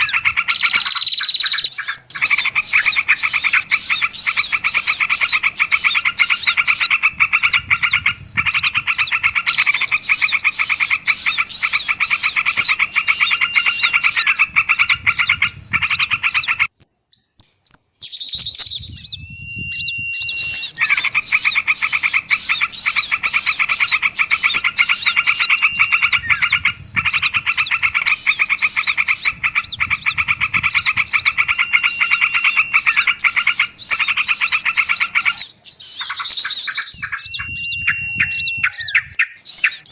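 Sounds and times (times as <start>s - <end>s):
held whistle: 0.0s - 16.7s, 18.4s - 39.9s
songbirds chattering: 0.0s - 39.9s.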